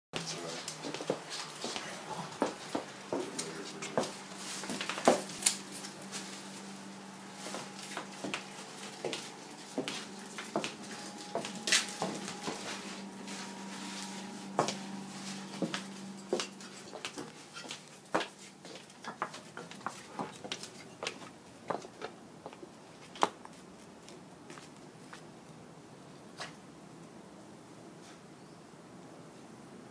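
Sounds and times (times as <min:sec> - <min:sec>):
footsteps on tile floor: 0:00.2 - 0:25.3
steady low hum: 0:00.2 - 0:29.9.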